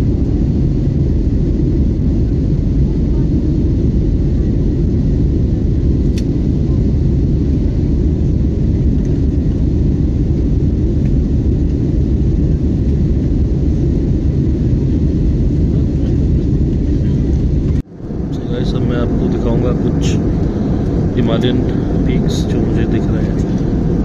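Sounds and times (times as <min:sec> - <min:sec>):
airliner engine rumble in cabin: 0:00.0 - 0:24.0.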